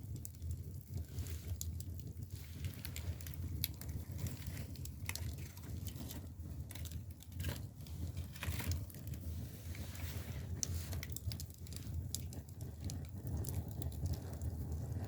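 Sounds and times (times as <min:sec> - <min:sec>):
firewood crackling and popping: 0:00.0 - 0:15.0
low rumble of fire: 0:00.0 - 0:15.0.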